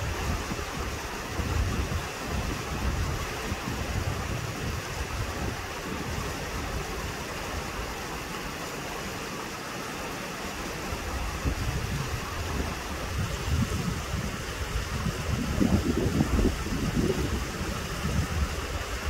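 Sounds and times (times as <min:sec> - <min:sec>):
wind buffeting microphone: 0:00.0 - 0:07.7, 0:10.9 - 0:19.0
rushing mountain stream: 0:00.0 - 0:19.0.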